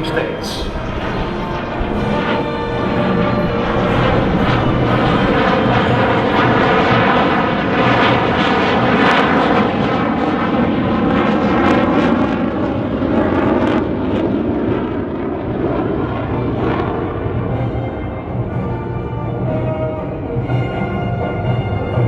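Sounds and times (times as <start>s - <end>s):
fighter jet flying past: 0.0s - 20.4s.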